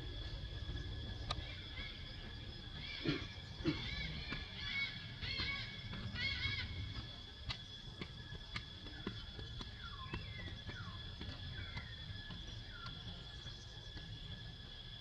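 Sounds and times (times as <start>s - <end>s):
steady high whine: 0.0s - 15.0s.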